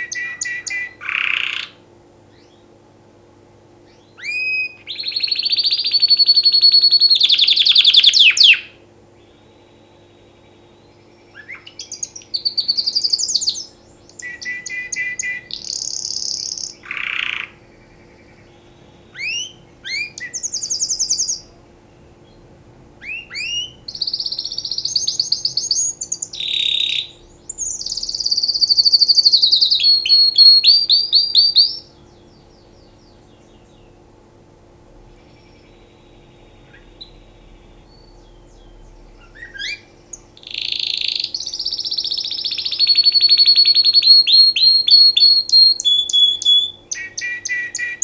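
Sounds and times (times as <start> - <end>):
canary singing trills: 0.0 - 48.0.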